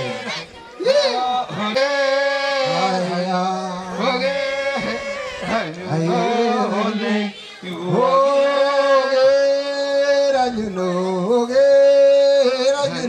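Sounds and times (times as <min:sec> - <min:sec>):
people chanting: 0:00.0 - 0:13.0.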